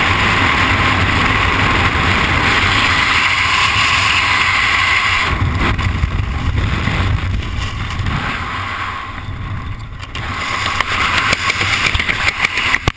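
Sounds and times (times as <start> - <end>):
wind buffeting camera microphone: 0.0 - 12.9.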